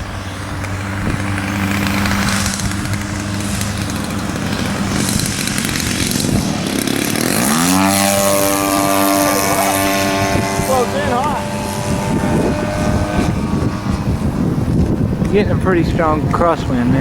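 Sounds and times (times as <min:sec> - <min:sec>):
model plane engine running: 0:00.0 - 0:17.0.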